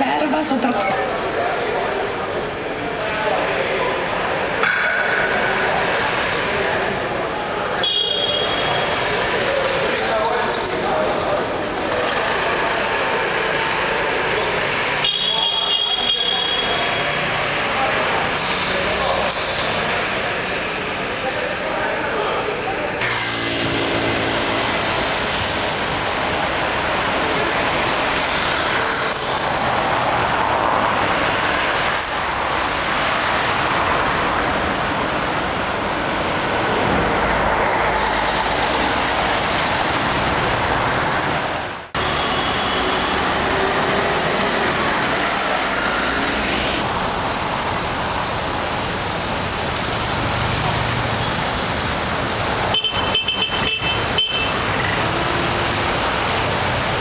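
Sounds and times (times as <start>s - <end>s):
city road traffic: 0.0s - 57.0s.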